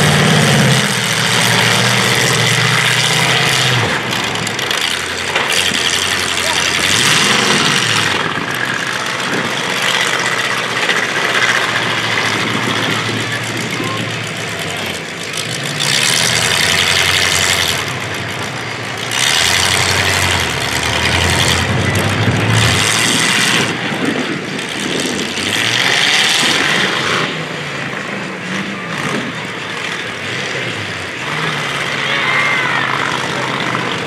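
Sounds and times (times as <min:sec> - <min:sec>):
car engines revving hard: 0:00.0 - 0:34.0
low engine rumble: 0:00.0 - 0:34.0.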